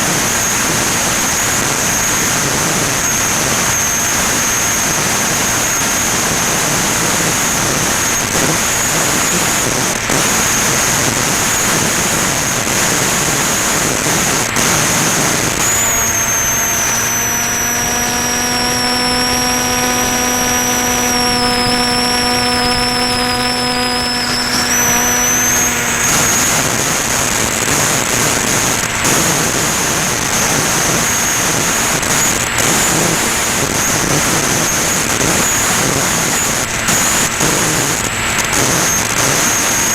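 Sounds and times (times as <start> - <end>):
high motor whine: 0.0 - 39.9
propeller and air rush: 0.0 - 39.9
steady buzzing hum: 0.0 - 39.9.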